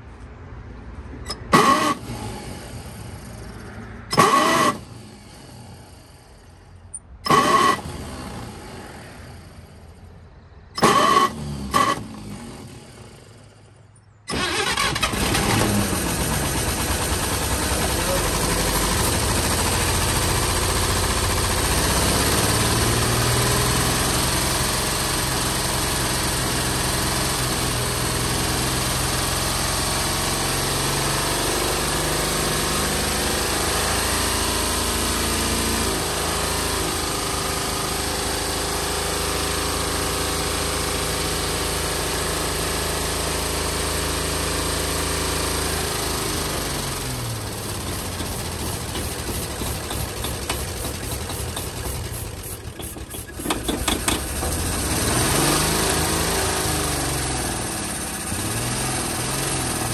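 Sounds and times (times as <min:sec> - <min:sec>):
truck engine starting and running: 0:00.0 - 0:59.9.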